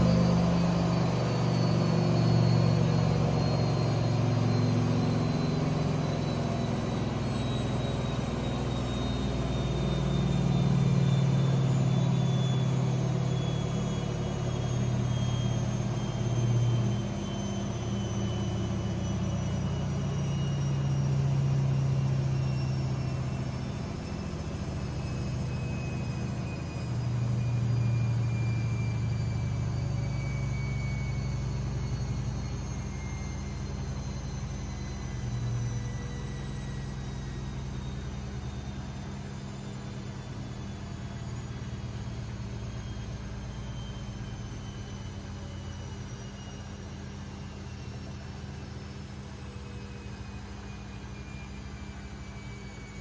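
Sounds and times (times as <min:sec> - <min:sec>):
thin motor whine: 0:00.0 - 0:53.0
washing machine spinning: 0:00.0 - 0:53.0.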